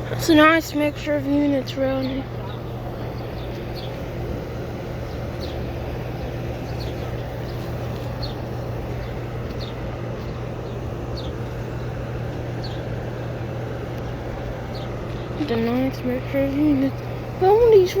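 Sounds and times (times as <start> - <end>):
air conditioner units humming: 0.0 - 18.0.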